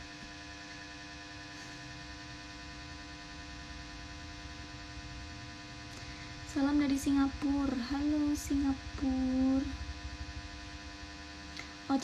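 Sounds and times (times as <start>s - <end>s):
electrical hum with buzz: 0.0s - 12.0s.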